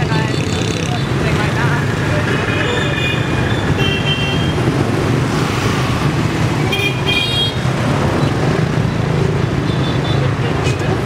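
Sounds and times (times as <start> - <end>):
street traffic of scooters and cars: 0.0 - 11.0.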